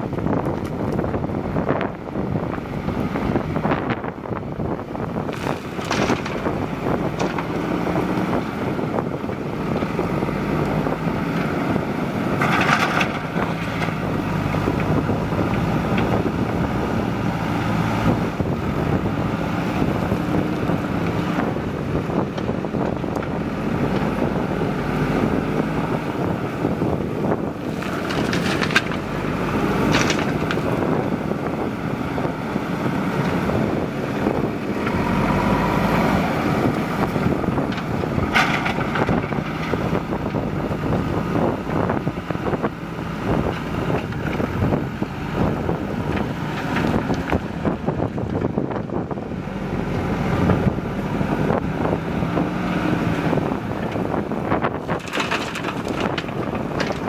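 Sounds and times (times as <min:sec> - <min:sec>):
diesel engine running: 0:00.0 - 0:57.0
wind on microphone: 0:00.0 - 0:57.0.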